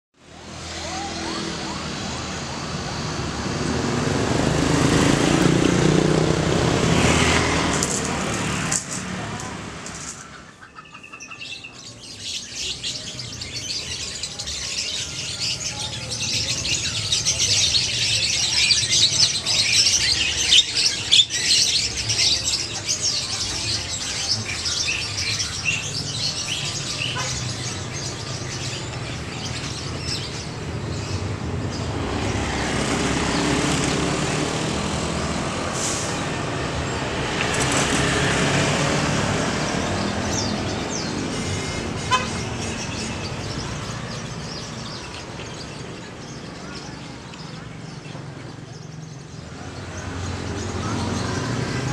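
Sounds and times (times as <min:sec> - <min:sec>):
motorcycle engines passing: 0:00.2 - 0:51.9
street traffic hum: 0:00.2 - 0:51.9
small birds chirping: 0:00.4 - 0:51.9.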